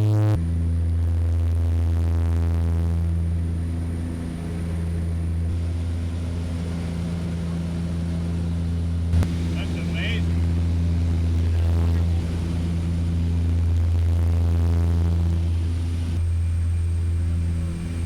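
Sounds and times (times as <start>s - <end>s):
propeller airplane engine drone: 0.0s - 18.0s.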